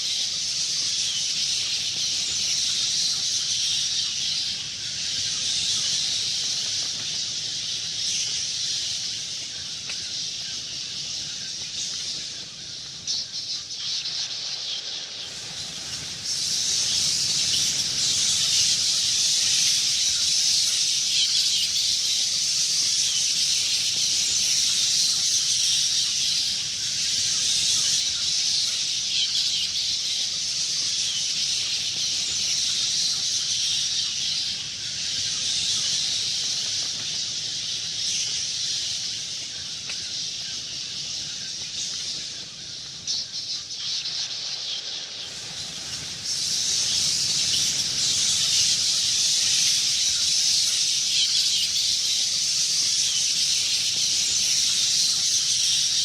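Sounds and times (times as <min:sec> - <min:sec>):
bats chittering: 0:00.0 - 0:56.0.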